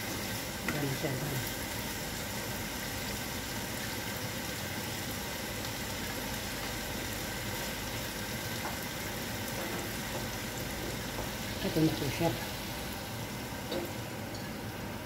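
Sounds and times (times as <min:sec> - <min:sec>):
meat frying in a pan: 0:00.0 - 0:15.0.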